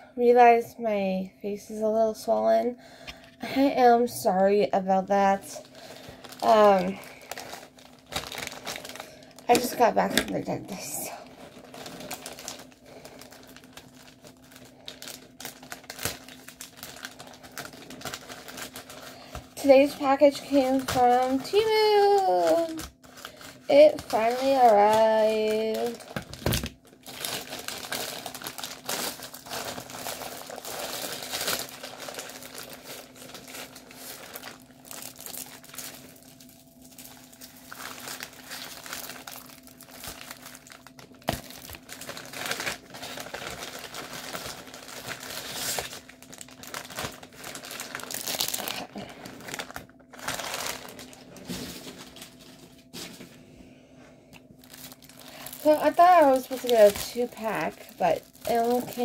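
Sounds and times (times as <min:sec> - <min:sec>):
packaging crinkling: 0:04.9 - 0:53.3, 0:54.4 - 0:59.0.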